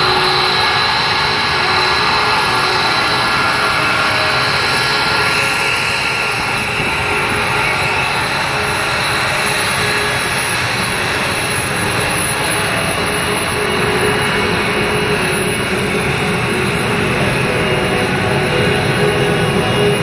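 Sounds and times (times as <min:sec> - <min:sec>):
airplane engine drone: 0:00.0 - 0:20.0
faint steady whine: 0:00.0 - 0:20.0.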